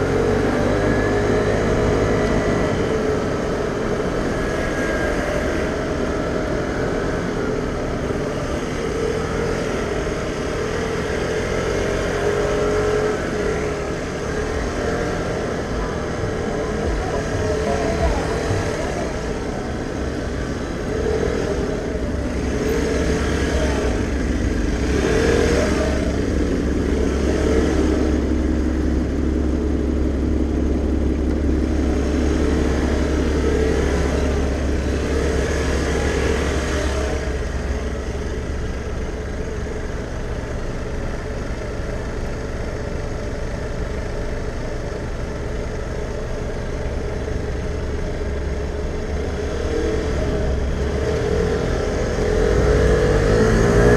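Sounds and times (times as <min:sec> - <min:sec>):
scooter engine running: 0:00.0 - 0:53.9.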